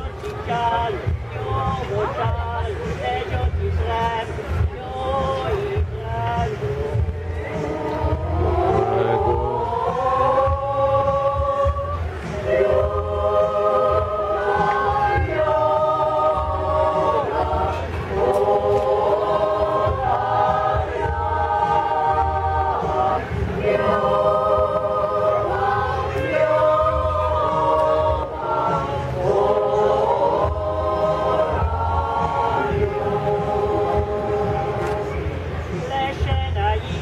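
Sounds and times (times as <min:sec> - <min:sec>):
women's choir singing: 0:05.2 - 0:35.4.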